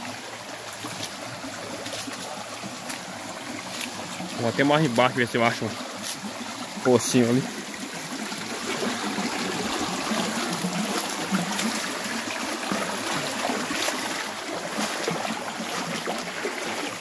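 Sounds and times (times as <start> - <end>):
creek trickling over stones: 0.0 - 17.0.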